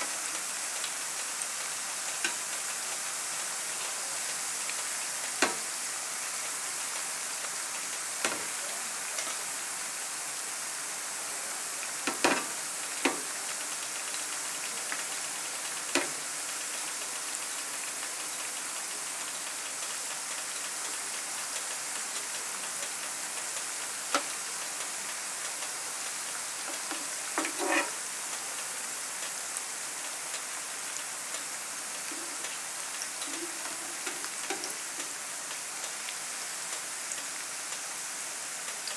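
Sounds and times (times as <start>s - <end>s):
slices sizzling in frying oil: 0.0s - 38.9s.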